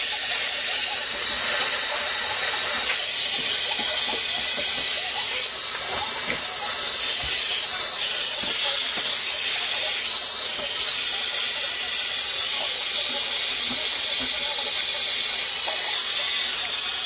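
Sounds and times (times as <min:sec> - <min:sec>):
soldering torch hissing: 0:00.0 - 0:17.0.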